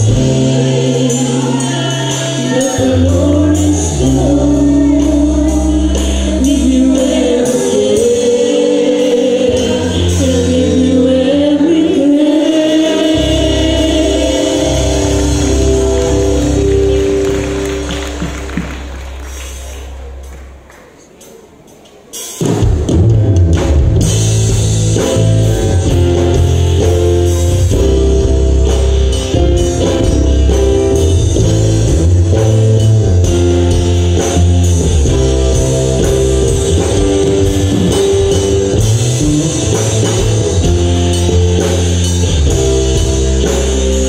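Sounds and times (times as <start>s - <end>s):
band music with drums guitar and bass: 0.0s - 44.0s.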